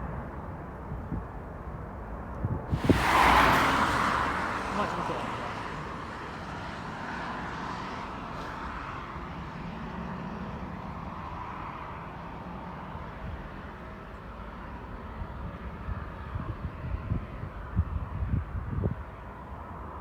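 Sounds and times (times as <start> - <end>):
wind gusts on microphone: 0.2 - 12.4, 15.1 - 20.0.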